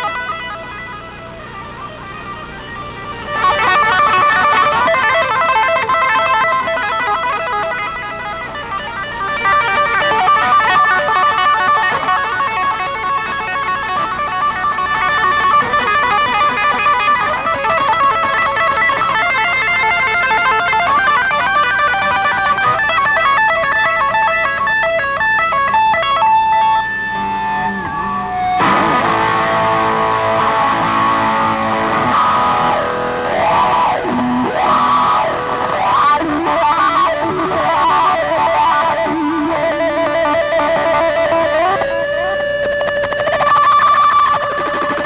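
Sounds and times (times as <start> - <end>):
electric guitar solo: 0.0 - 45.0.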